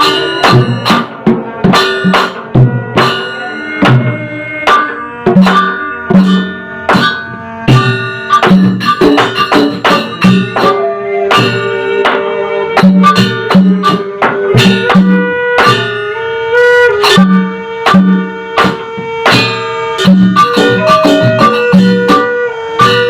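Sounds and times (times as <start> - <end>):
ringing struck metal tones: 0.0 - 16.1, 16.9 - 23.0
hand drum strokes: 0.0 - 23.0
held melody line: 0.0 - 23.0.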